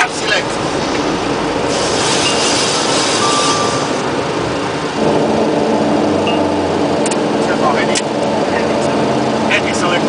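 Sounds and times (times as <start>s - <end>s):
jet engine and airflow noise: 0.0s - 10.0s.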